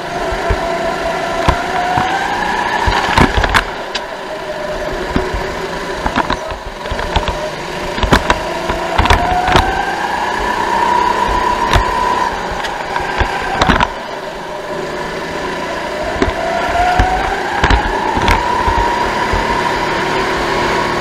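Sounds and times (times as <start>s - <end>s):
kart knocking and rattling: 0.0s - 4.2s, 4.8s - 14.6s, 15.6s - 21.0s
go-kart engine running: 0.0s - 21.0s.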